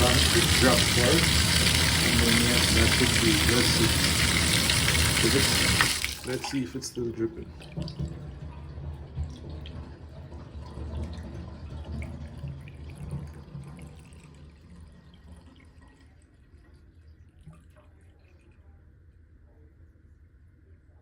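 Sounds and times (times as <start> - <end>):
water trickling and dripping: 0.0 - 18.7.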